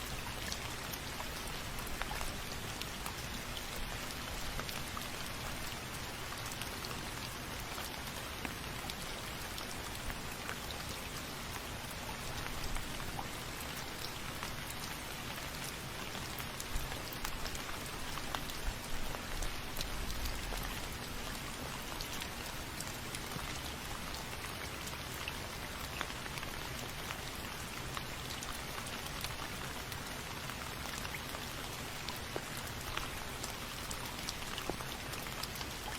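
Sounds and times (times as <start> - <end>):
rain drops pattering: 0.0 - 35.9.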